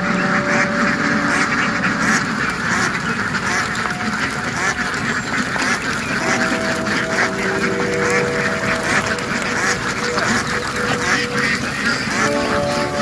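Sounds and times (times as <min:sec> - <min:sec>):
ducks quacking: 0:00.0 - 0:13.0
long held tones: 0:00.0 - 0:13.0.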